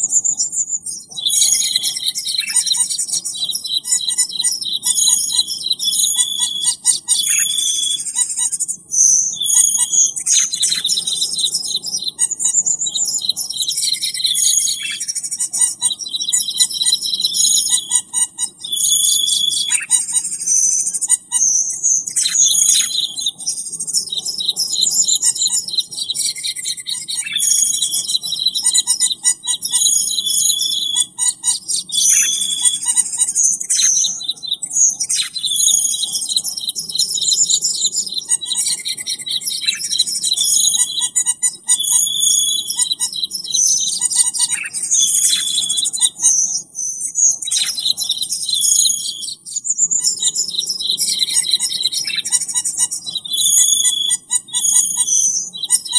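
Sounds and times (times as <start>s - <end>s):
bird chirping and trilling: 0.0s - 55.9s.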